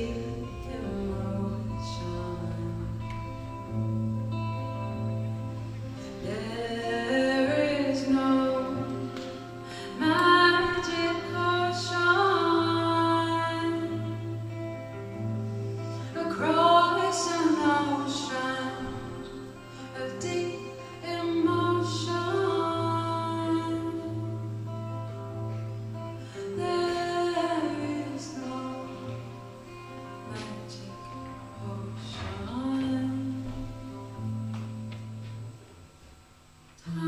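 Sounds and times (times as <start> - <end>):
woman singing: 0.0 - 5.0, 5.9 - 15.0, 15.8 - 25.3, 26.0 - 34.3, 36.8 - 37.0
acoustic guitar: 0.0 - 37.0.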